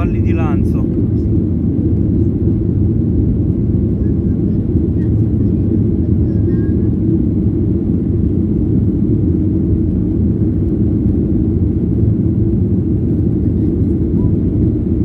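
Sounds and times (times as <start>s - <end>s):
jet engines at climb power: 0.0s - 15.0s.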